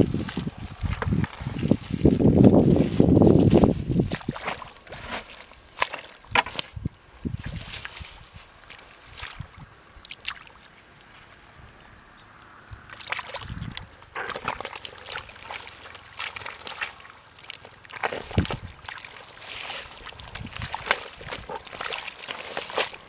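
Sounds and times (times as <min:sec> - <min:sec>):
hands splashing in muddy water: 0:00.0 - 0:06.7, 0:07.3 - 0:10.7, 0:12.9 - 0:23.0.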